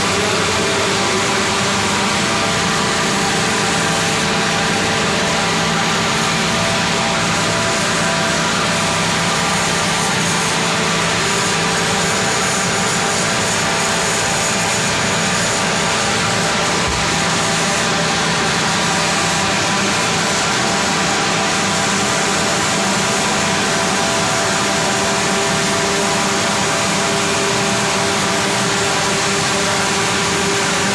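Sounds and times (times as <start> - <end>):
air compressor running: 0.0 - 30.9.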